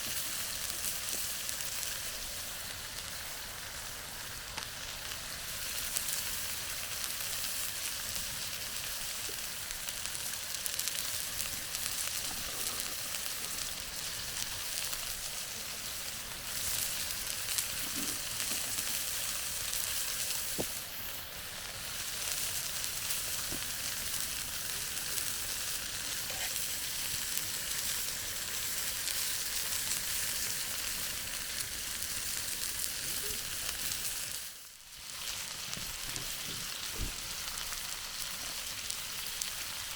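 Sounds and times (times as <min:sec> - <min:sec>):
chicken sizzling over fire: 0:00.0 - 0:39.9.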